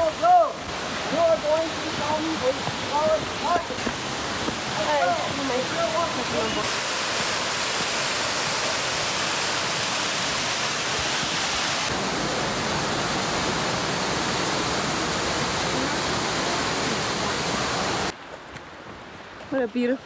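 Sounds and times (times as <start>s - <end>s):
waterfall over rocks: 0.0s - 18.2s.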